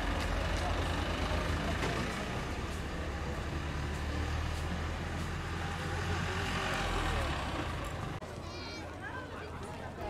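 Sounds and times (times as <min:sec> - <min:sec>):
low rumble of street noise: 0:00.0 - 0:10.0.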